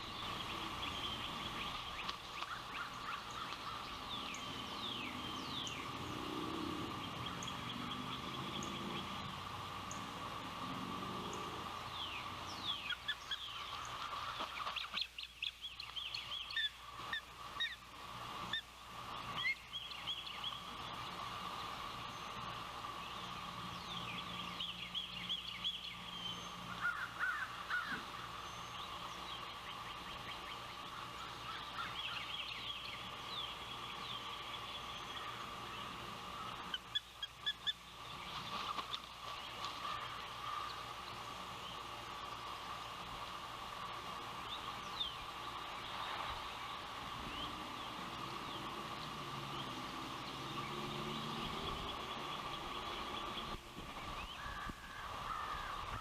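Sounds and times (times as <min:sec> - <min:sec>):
steady high hum: 0:00.0 - 0:56.0.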